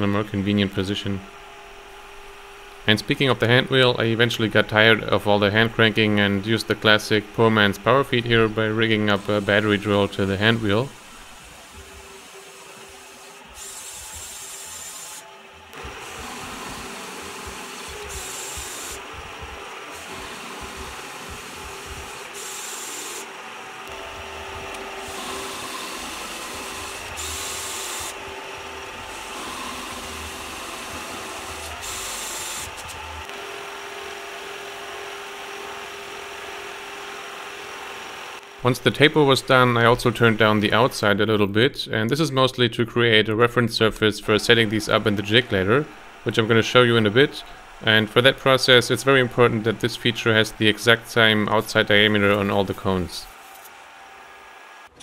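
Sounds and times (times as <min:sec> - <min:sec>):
higher machine sound: 0:00.0 - 0:41.1, 0:43.7 - 0:55.0
metal lathe humming: 0:00.6 - 0:41.0, 0:43.9 - 0:55.0.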